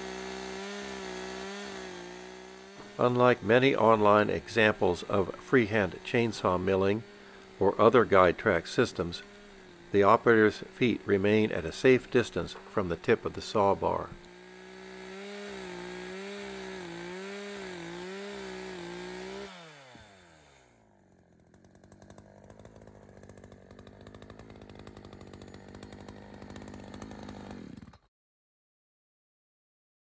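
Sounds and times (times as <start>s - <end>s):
chainsaw cutting through log: 0.0s - 28.1s.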